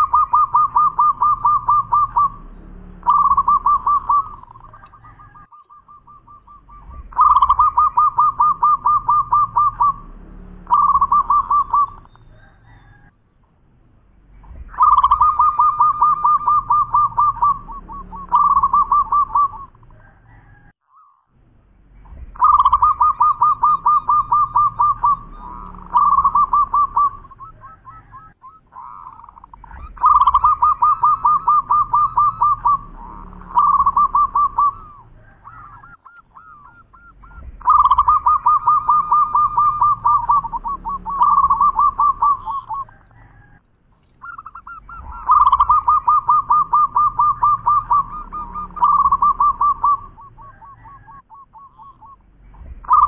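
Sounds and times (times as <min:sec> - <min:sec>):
dove cooing: 0:00.0 - 0:13.2, 0:14.2 - 0:21.2, 0:22.1 - 0:53.0.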